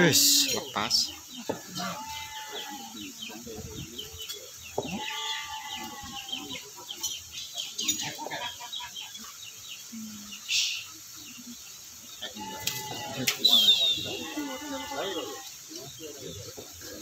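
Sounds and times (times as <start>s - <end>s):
birds chirping: 0.0s - 17.0s
faint background murmur: 0.0s - 17.0s.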